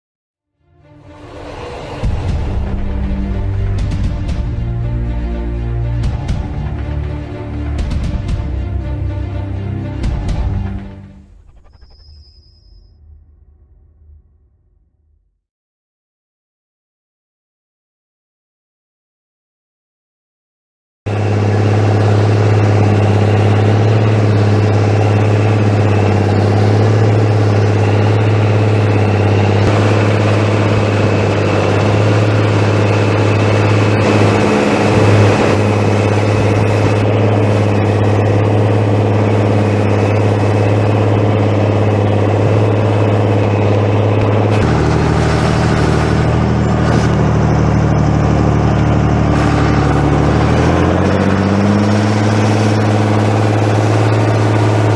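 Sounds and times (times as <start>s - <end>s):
tractor diesel engine running: 0.8s - 12.0s, 21.1s - 54.9s.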